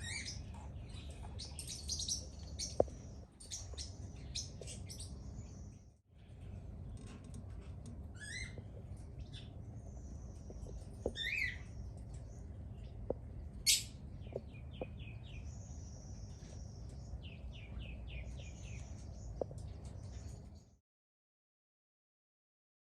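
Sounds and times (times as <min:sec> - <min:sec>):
birds chirping and calling: 0:00.0 - 0:06.6, 0:08.1 - 0:20.6
low background rumble: 0:00.0 - 0:20.8.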